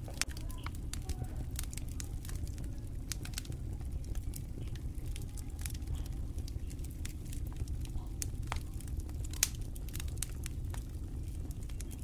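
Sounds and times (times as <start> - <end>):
fire crackling and popping: 0.0 - 12.0.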